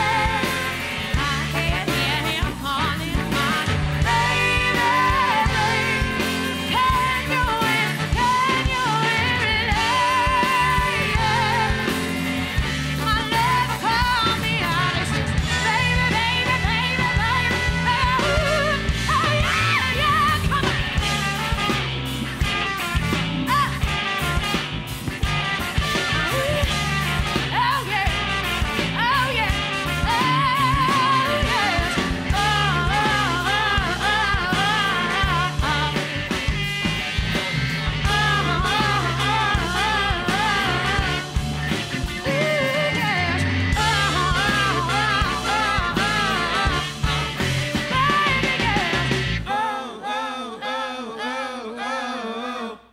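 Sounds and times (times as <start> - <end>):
woman singing: 0.0 - 12.2, 12.9 - 21.0, 26.2 - 36.4, 38.0 - 41.4, 42.2 - 52.0
rock band playing live: 0.0 - 49.6
horn section: 0.0 - 52.7.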